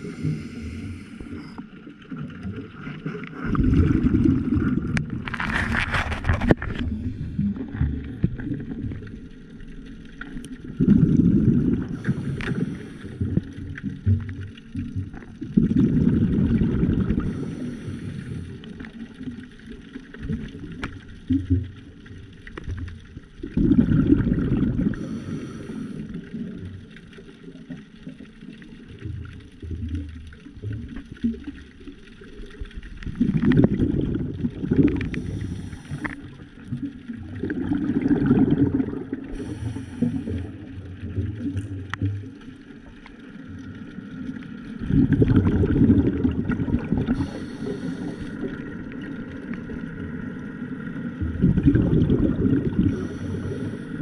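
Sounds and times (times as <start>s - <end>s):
exhaled bubbles underwater: 0.0s - 54.0s.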